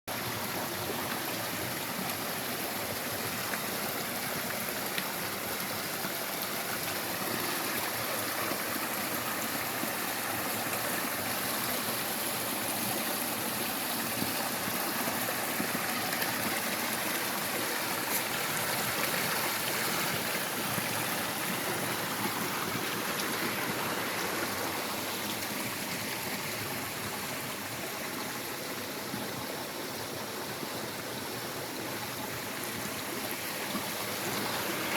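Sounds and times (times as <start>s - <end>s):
stream of running water: 0.1s - 34.9s.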